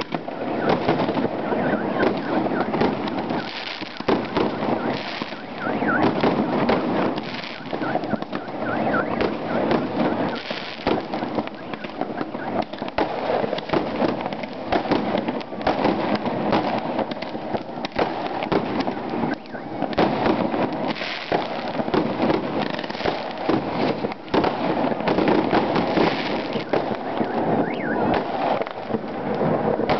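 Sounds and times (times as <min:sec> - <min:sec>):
fireworks bangs and pops: 0:00.0 - 0:29.9.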